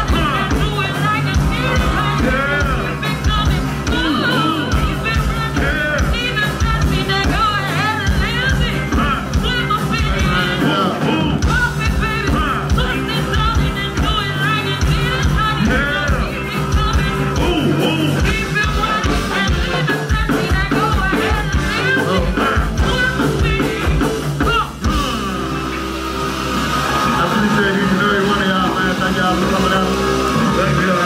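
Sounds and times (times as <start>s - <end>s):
person singing: 0.0s - 25.3s
bass: 0.0s - 31.0s
drums: 0.0s - 31.0s.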